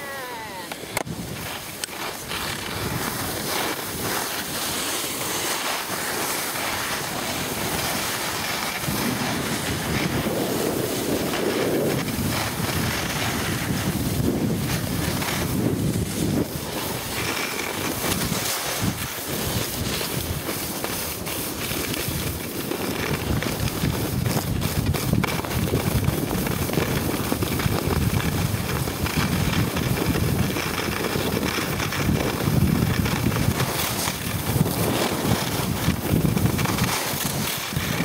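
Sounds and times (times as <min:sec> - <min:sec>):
skis hissing over snow: 0:00.0 - 0:38.0
wind rushing over microphone: 0:00.0 - 0:38.0.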